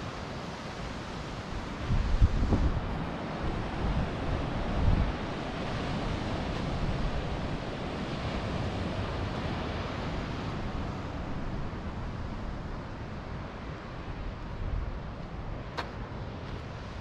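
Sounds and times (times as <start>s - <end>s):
ocean surf breaking: 0.0s - 17.0s
wind buffeting microphone: 1.3s - 17.0s.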